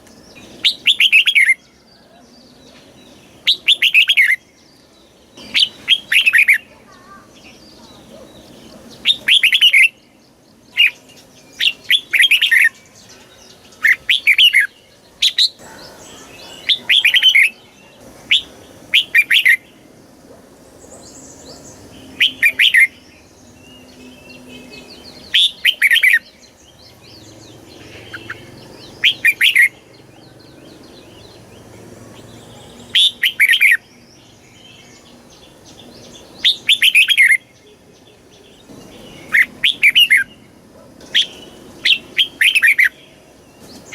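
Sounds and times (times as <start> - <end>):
bird warbling whistled song: 0.0 - 4.8, 5.4 - 19.8, 20.9 - 31.5, 32.2 - 40.4, 41.0 - 43.9.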